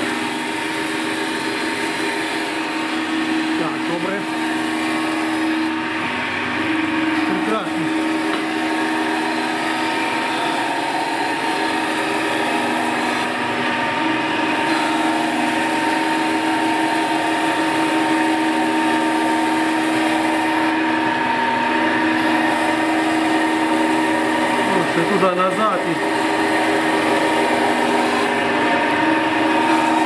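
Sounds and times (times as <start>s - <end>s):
grinder whine and hum: 0.0s - 30.0s.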